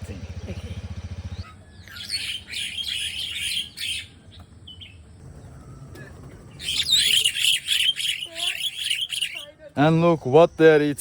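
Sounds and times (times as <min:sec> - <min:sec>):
starlings chirping and chattering: 0:00.0 - 0:11.0.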